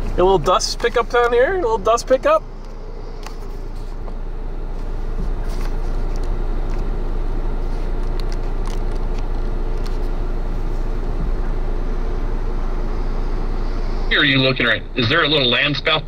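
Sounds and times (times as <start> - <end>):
faint steady hum: 0.0 - 16.0
vehicle road and wind noise: 0.0 - 16.0.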